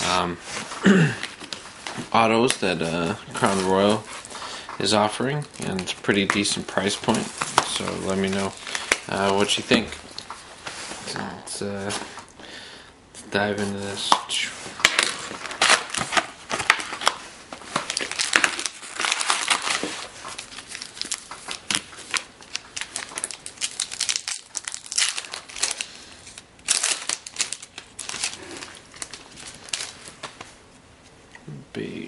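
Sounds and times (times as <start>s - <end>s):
plastic wrapping crinkling and tearing: 0.5s - 11.2s, 14.8s - 30.6s.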